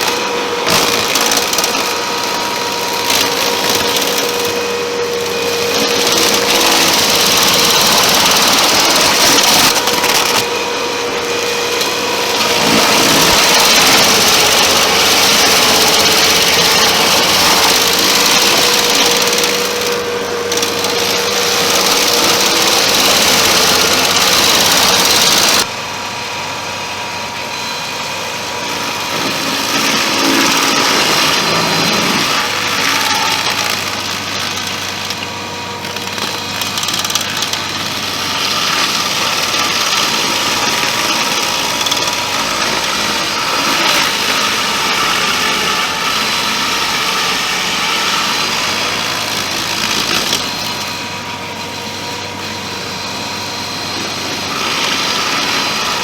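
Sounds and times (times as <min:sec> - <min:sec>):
stump grinder engine grinding: 0:00.0 - 0:56.0.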